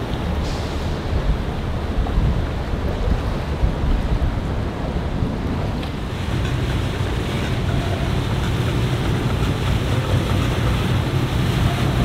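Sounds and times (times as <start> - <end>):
boat engines rumbling: 0.0 - 12.0
wind noise on microphone: 0.0 - 12.0.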